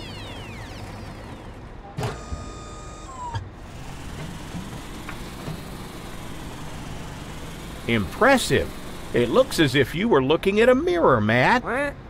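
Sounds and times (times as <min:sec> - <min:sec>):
electronic hum of steady tones: 0:00.0 - 0:09.9
car engine running quietly: 0:00.0 - 0:10.1.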